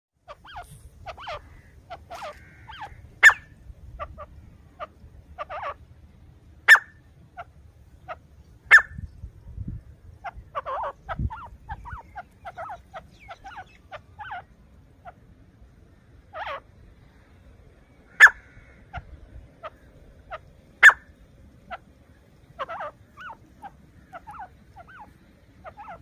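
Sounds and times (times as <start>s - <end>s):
bird clucking calls: 0.3s - 5.8s, 6.6s - 9.0s, 10.2s - 15.3s, 15.9s - 17.3s, 18.0s - 26.0s.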